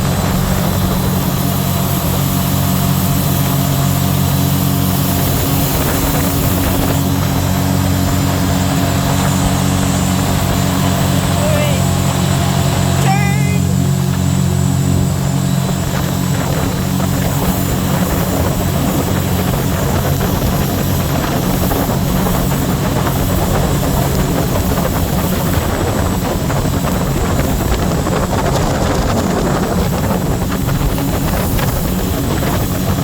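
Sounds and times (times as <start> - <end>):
boat engine running: 0.0 - 33.0
rush of wind and water: 0.0 - 33.0.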